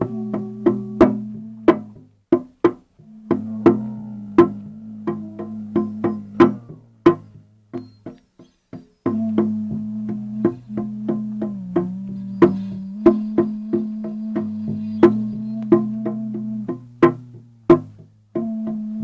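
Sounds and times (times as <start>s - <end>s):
instrument low drone: 0.0s - 2.0s, 3.0s - 7.6s, 9.1s - 17.8s, 18.4s - 19.0s.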